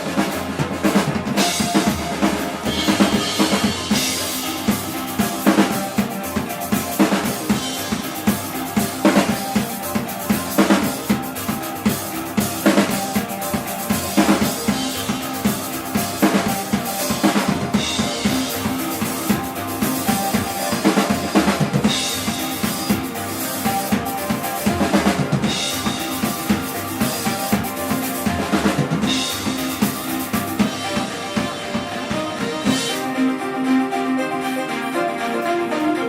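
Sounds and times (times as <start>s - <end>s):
live band playing: 0.0s - 36.0s.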